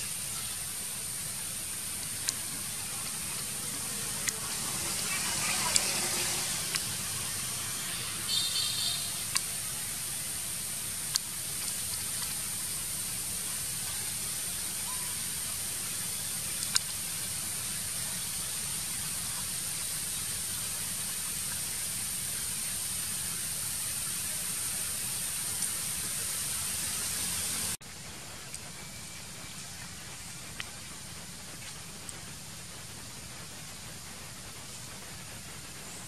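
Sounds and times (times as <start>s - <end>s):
steady outdoor hiss: 0.0s - 36.0s.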